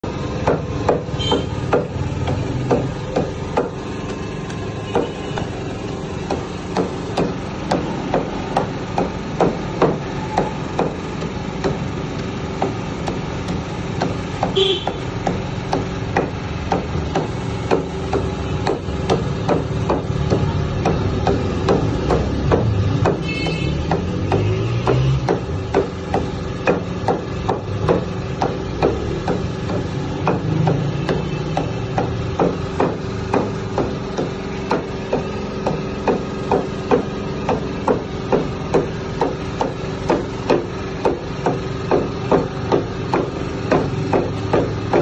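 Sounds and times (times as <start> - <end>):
cleaver chopping meat on wood: 0.0 - 45.0.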